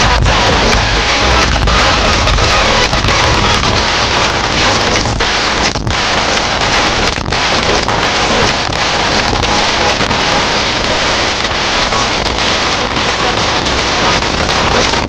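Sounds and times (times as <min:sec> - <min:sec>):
distorted loud dance music: 0:00.0 - 0:15.0.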